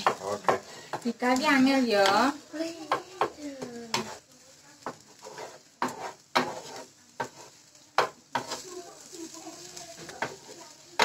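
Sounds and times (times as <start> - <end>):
eggs sizzling: 0.0 - 11.0
spatula scraping a frying pan: 0.0 - 11.0.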